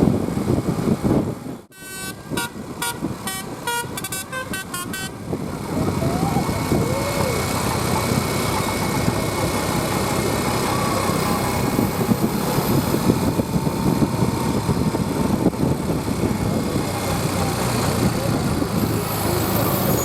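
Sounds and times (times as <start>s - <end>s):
roadside traffic noise: 0.0s - 20.0s
vehicle engine running: 0.0s - 20.0s.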